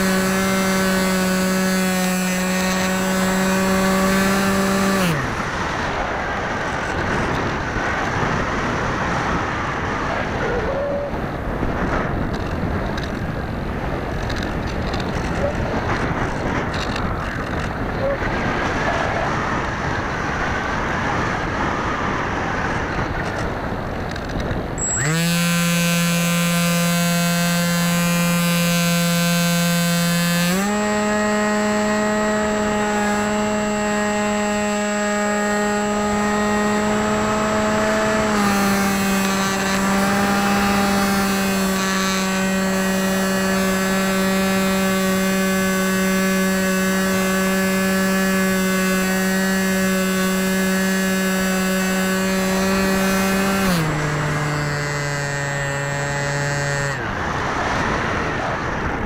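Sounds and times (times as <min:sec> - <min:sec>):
electric motor buzzing whine: 0:00.0 - 0:18.8, 0:19.5 - 0:59.0.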